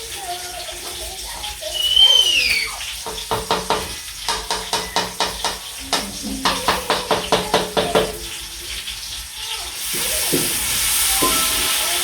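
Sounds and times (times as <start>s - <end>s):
onions sizzling: 0.0s - 12.0s.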